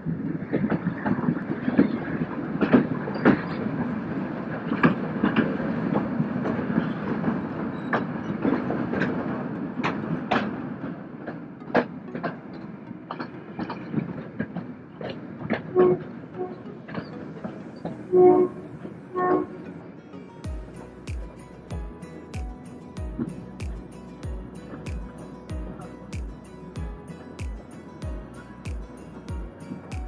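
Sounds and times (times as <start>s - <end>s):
rail joint clicks and knocks: 0.0s - 30.0s
train wheels rumbling on rail: 0.0s - 30.0s.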